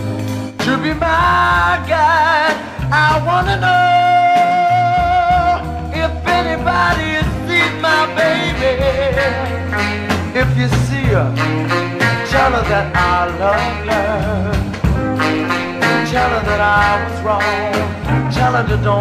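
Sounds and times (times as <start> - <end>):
blues song with bass and beat: 0.0 - 19.0.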